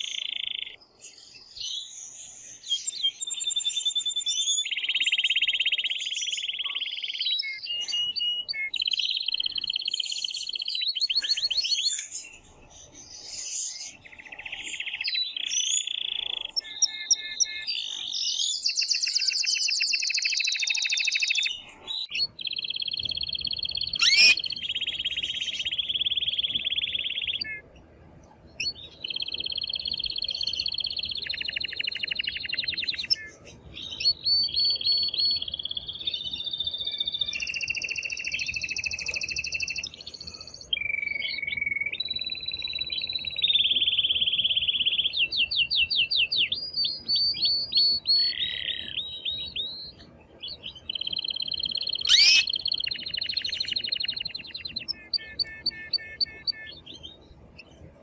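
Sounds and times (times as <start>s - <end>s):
canary singing trills: 0.0s - 27.8s, 28.6s - 57.6s.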